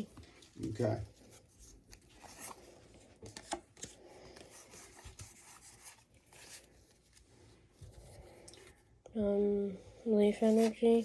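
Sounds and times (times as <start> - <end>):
trading cards rustling and sliding: 0.0 - 8.9.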